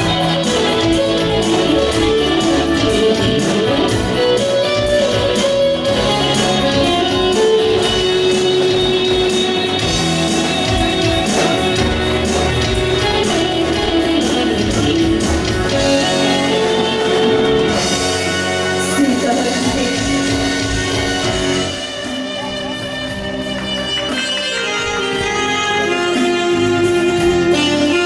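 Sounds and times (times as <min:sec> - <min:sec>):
electronic keyboard chords: 0:00.0 - 0:28.0
plucked guitar-like lead melody: 0:00.0 - 0:28.0.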